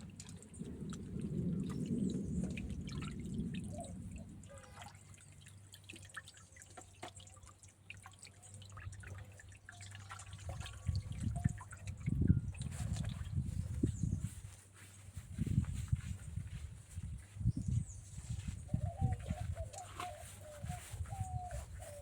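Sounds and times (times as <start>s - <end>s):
water drips: 0.0s - 22.0s
water sloshing and trickling: 0.0s - 22.0s.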